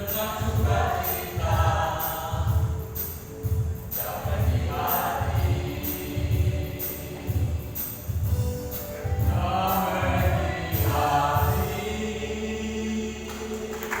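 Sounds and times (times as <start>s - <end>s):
sharp percussion strokes: 0.0s - 12.2s
steady beat: 0.0s - 12.3s
choir singing a hymn: 0.0s - 14.0s.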